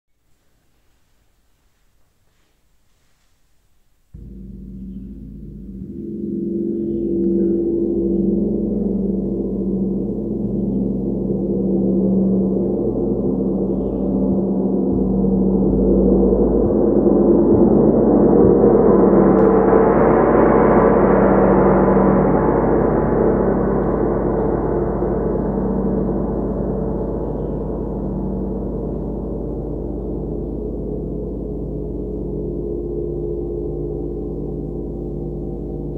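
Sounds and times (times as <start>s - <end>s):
gong ringing: 4.2s - 35.9s.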